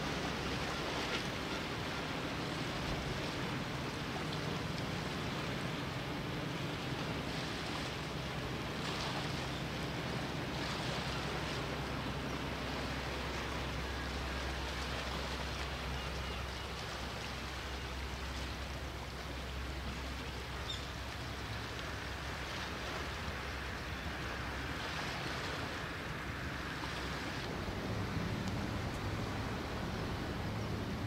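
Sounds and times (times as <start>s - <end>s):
sea waves washing on concrete: 0.0s - 31.0s.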